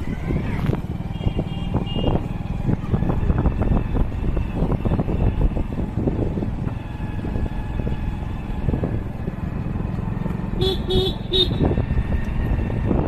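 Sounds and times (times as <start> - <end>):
wind buffeting microphone: 0.0 - 10.2, 11.4 - 13.0
motorcycle engine rumble: 0.0 - 13.0
road rumble: 0.0 - 13.0.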